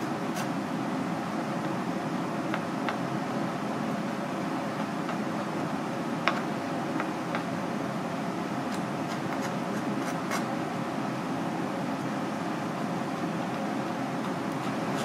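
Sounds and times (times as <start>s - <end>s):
fan-like hum: 0.0s - 15.0s.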